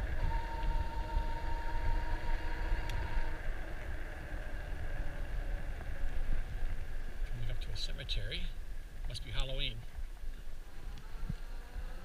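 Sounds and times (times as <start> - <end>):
high motor whine: 0.0 - 8.8, 10.4 - 12.0
wind buffeting microphone: 0.0 - 12.0.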